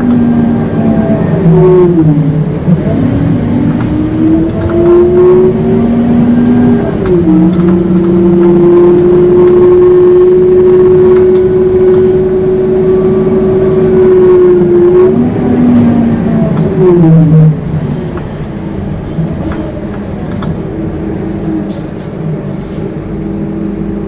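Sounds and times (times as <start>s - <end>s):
bus drivetrain whine: 0.0s - 24.0s.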